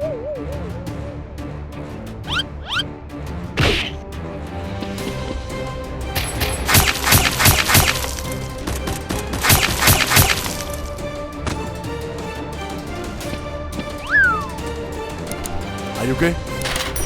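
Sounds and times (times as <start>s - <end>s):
action music: 0.0s - 17.0s.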